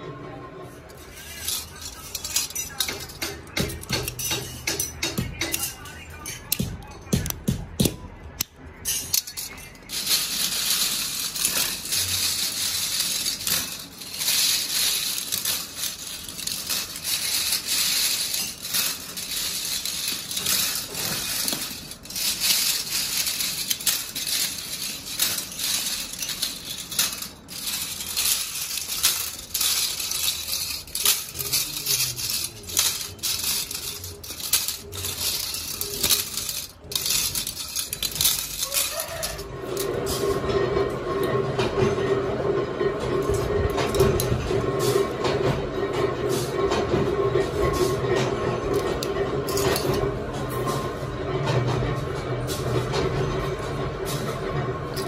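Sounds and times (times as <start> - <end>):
metal clips clinking and clattering: 0.9 - 40.6, 43.2 - 45.0, 47.7 - 50.8.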